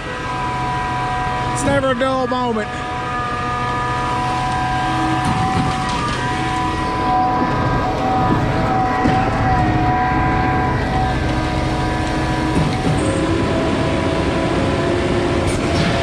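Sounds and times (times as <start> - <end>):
concrete pump mechanical din: 0.0 - 16.0
pitch-shifting whine: 0.0 - 16.0.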